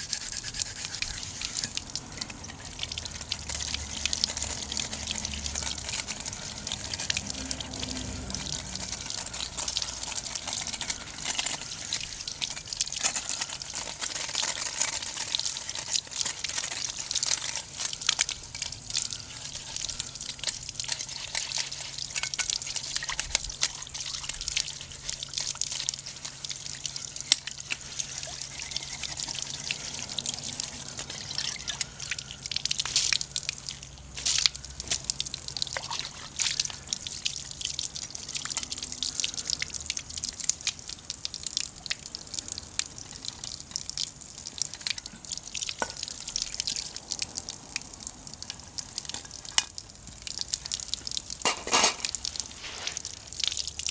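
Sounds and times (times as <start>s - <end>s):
broth simmering and bubbling: 0.0s - 53.9s
wood fire crackling: 0.0s - 53.9s.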